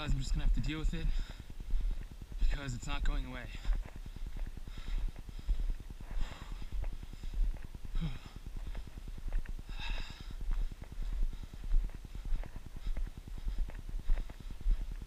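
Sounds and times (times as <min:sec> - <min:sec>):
person breathing hard: 0:01.0 - 0:02.5, 0:03.5 - 0:15.0.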